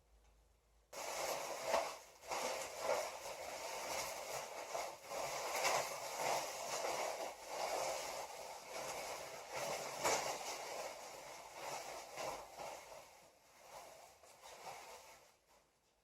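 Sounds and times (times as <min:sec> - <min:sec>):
packing material rustling: 0:01.0 - 0:15.4.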